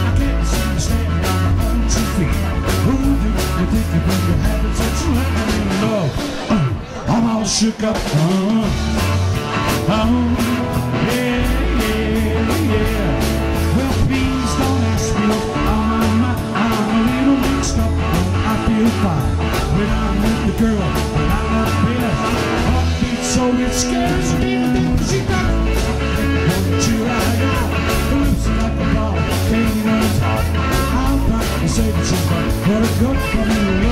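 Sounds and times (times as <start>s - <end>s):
man singing: 0.0s - 33.9s
rock band playing: 0.0s - 33.9s.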